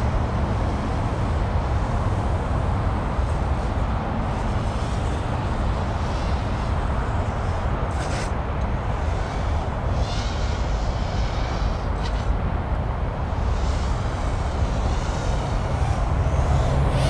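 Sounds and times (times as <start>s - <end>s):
drone motors whining: 3.2s - 17.0s.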